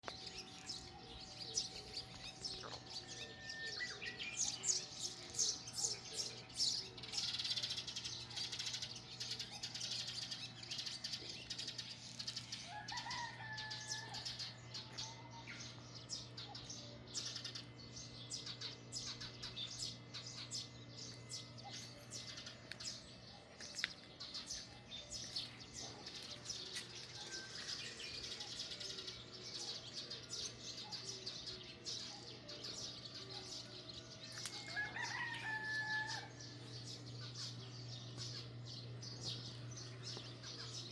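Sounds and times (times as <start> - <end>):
small birds chirping: 0.0 - 40.9
steady low hum: 0.0 - 40.9.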